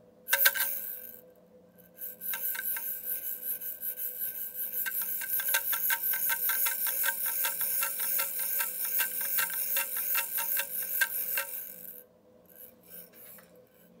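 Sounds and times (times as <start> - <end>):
shaker shaken in rhythm: 2.0 - 13.4.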